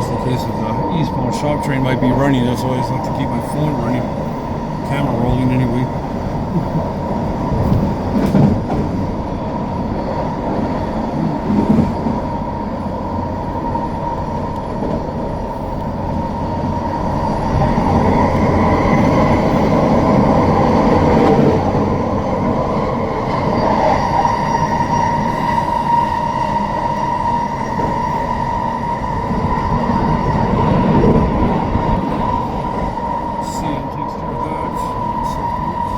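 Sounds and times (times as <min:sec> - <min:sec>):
high train whine: 0:00.0 - 0:35.9
train rumbling on track: 0:00.0 - 0:35.9.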